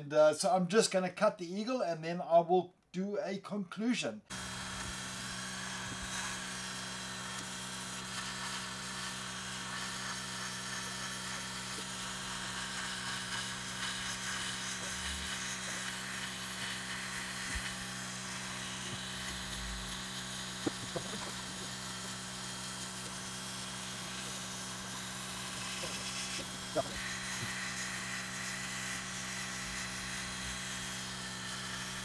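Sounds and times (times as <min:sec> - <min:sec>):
compressor and fans humming: 0:04.3 - 0:32.0.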